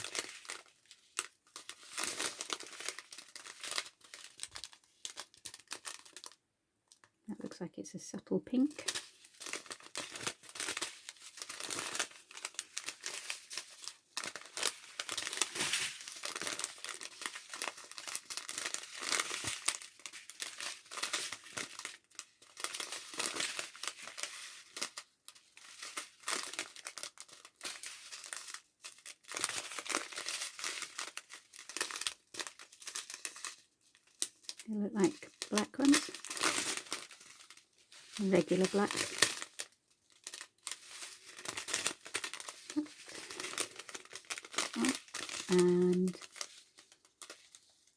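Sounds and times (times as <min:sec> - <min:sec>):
plastic bags crinkling: 0:00.0 - 0:07.1, 0:08.5 - 0:47.9.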